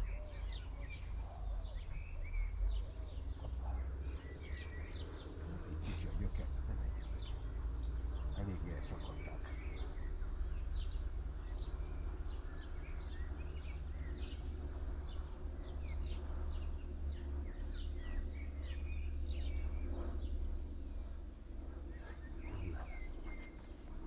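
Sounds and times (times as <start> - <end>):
low rumble: 0.0 - 24.0
songbirds chirping: 0.0 - 24.0.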